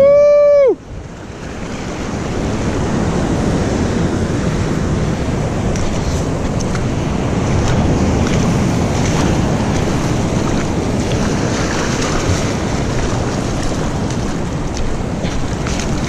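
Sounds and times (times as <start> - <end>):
surf washing over rocks: 0.0 - 16.0
wind buffeting microphone: 0.7 - 16.0.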